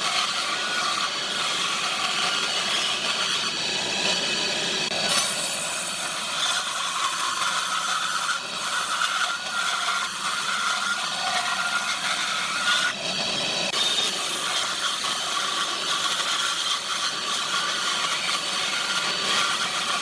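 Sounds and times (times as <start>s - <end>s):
power tool cutting wood: 0.0s - 20.0s.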